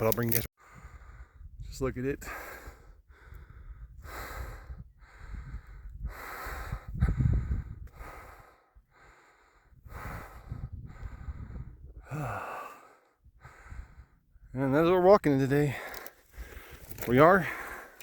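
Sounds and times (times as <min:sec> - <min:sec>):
person breathing hard: 0:00.6 - 0:01.6, 0:02.2 - 0:14.5, 0:15.7 - 0:18.0.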